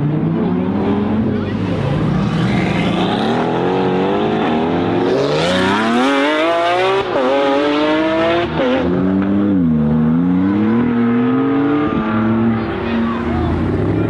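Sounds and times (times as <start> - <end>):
sports car engine accelerating: 0.0 - 14.0.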